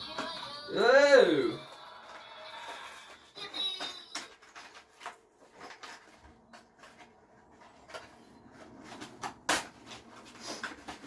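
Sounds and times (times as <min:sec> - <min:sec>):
cardboard and plastic rustling: 0:01.6 - 0:11.0.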